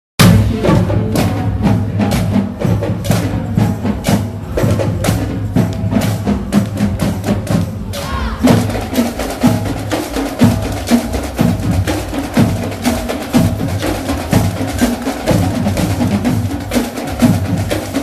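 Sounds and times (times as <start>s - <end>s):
marching band playing: 0.2s - 18.0s
rapid drum strikes: 0.2s - 18.0s.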